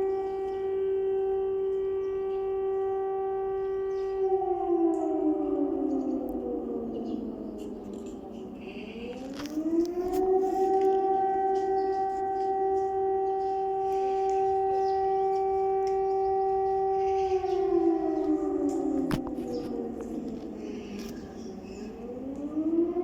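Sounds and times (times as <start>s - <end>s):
warning siren wailing: 0.0s - 23.0s.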